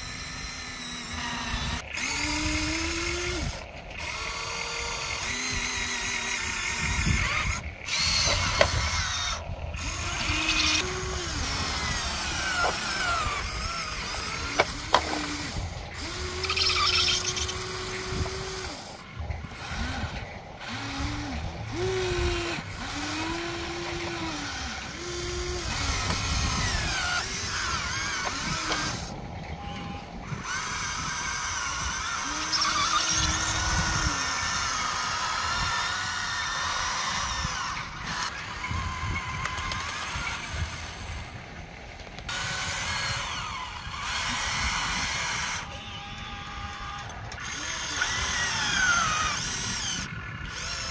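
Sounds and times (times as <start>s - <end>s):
toy excavator motors whining: 0.0s - 50.9s.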